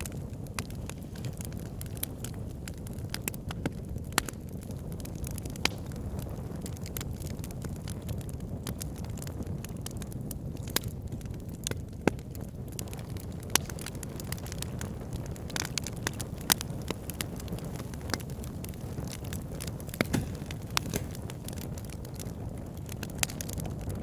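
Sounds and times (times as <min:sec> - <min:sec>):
fire crackling and popping: 0:00.0 - 0:24.0
fire low rumble: 0:00.0 - 0:24.0.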